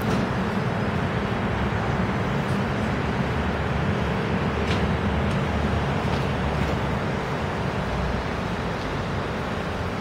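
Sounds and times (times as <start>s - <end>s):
tram rumble and hum: 0.0s - 10.0s.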